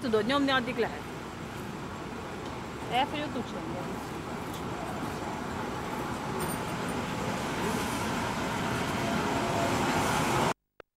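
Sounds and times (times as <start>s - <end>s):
diesel locomotive engine rumbling: 0.0s - 10.6s.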